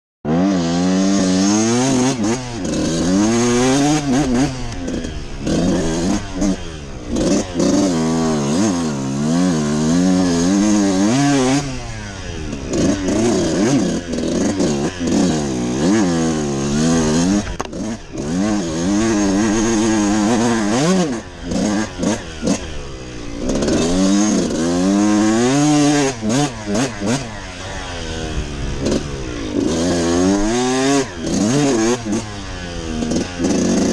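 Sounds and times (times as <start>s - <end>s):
dirt bike engine revving: 0.3s - 33.9s.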